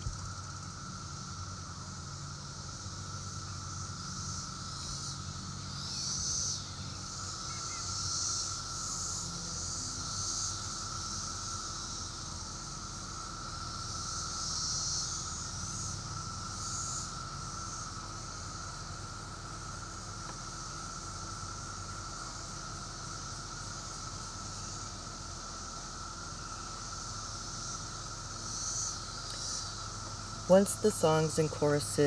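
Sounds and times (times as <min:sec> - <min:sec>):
cicadas buzzing: 0:00.0 - 0:32.0
cicadas droning: 0:00.0 - 0:32.0.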